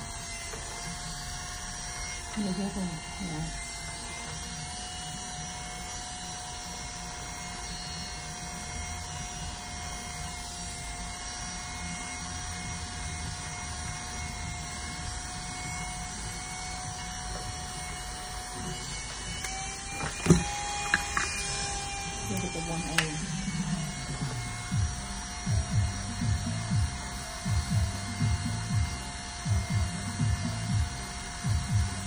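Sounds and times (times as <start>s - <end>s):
electric hair clippers humming: 0.0s - 32.0s.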